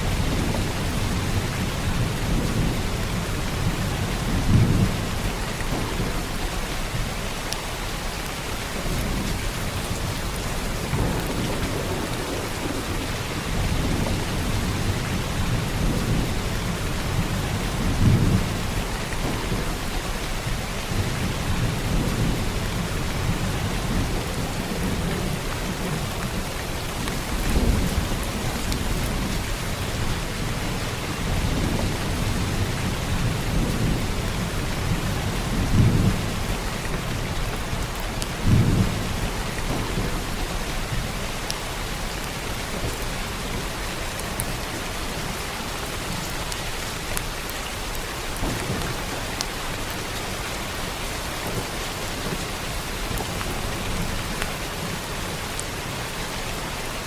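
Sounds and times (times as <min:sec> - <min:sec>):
heavy rain falling: 0:00.0 - 0:57.0
thunder rumbling: 0:08.6 - 0:55.4.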